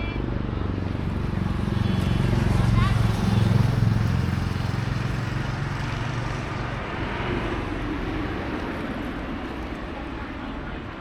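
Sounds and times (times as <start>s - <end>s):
street noise: 0.0s - 11.0s
vehicle engine passing: 0.4s - 10.4s.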